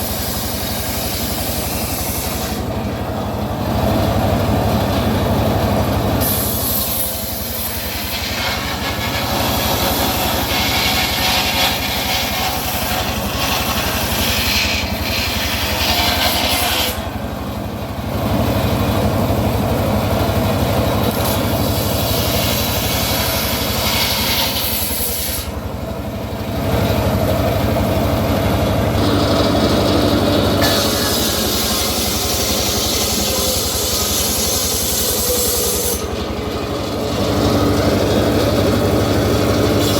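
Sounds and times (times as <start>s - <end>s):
saw blade cutting log: 0.0s - 39.9s
sawmill low hum: 0.0s - 39.9s.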